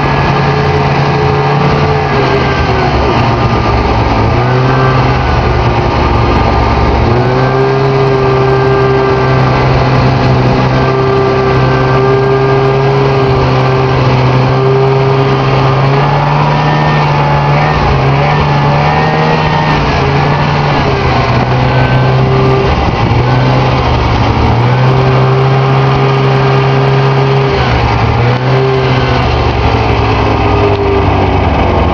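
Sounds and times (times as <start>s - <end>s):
snowmobile engine running: 0.0s - 31.9s.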